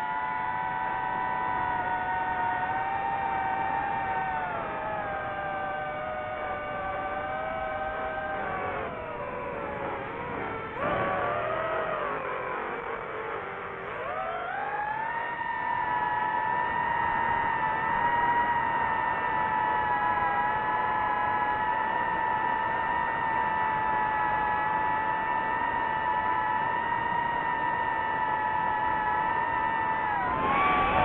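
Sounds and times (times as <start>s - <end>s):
drone propellers whining: 0.0s - 31.0s.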